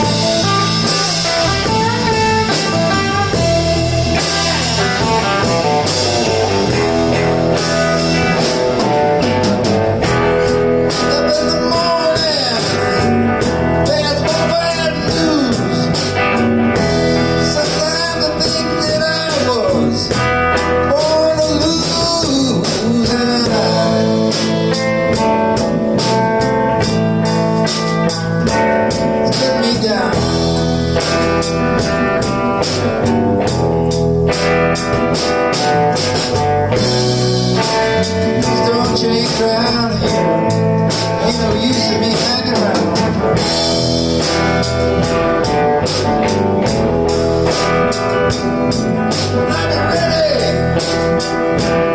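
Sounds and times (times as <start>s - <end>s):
electric guitar solo: 0.0s - 39.2s, 40.0s - 51.9s
bass: 0.0s - 51.9s
drums and cymbals: 0.0s - 51.9s.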